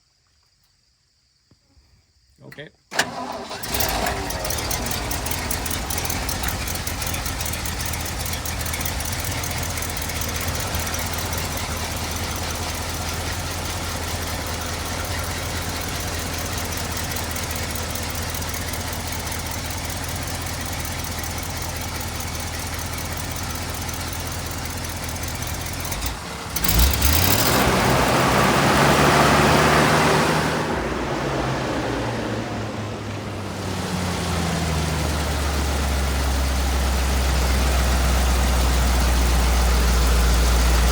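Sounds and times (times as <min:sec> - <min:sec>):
truck engine idling and revving: 0:03.0 - 0:40.9.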